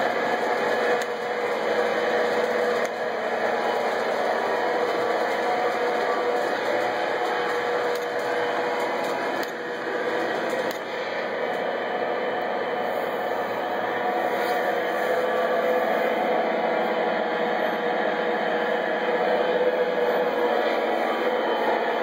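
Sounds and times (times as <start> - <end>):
model train motor hum and wheels: 0.0 - 22.0.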